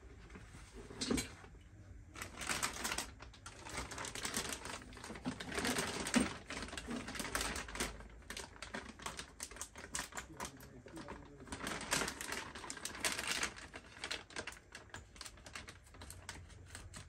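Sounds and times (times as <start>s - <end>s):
plastic packaging rustling: 2.2s - 17.0s.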